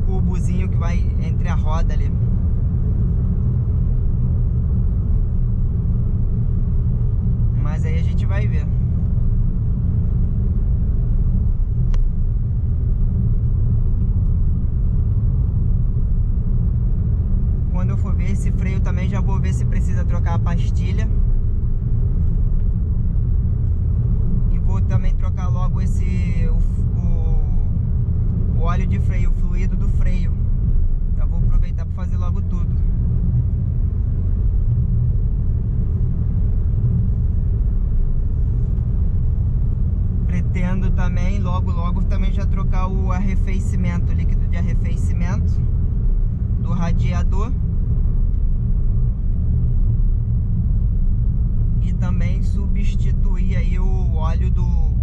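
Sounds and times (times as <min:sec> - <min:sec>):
road and engine rumble in car: 0:00.0 - 0:55.0.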